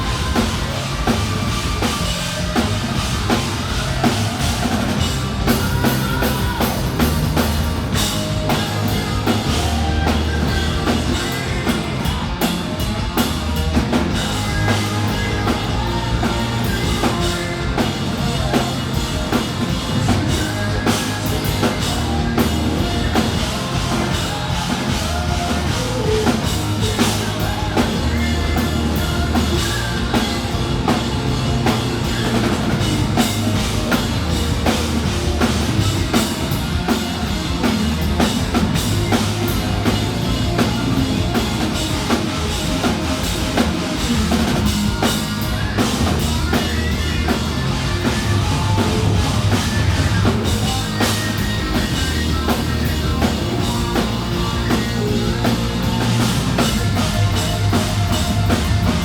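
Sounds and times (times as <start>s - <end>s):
drum kit beat: 0.0s - 59.0s
hard rock band playing: 0.0s - 59.0s.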